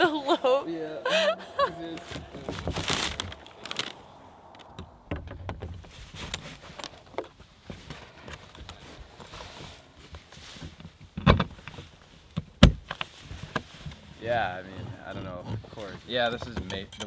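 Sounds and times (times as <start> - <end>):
objects being handled: 1.6 - 17.0.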